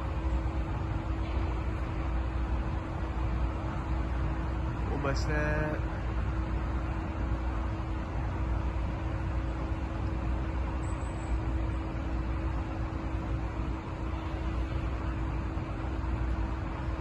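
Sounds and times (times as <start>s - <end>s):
constant hum: 0.0s - 17.0s
construction machinery engine rumble: 0.0s - 17.0s.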